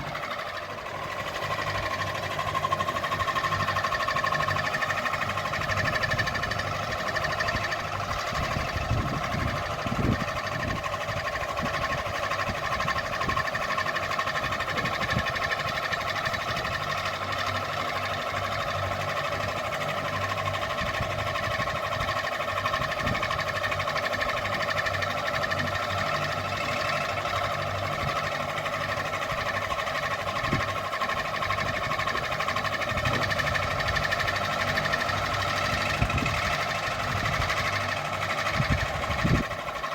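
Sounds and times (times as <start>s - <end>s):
ceiling fan whirring: 0.0s - 17.6s, 18.2s - 39.9s.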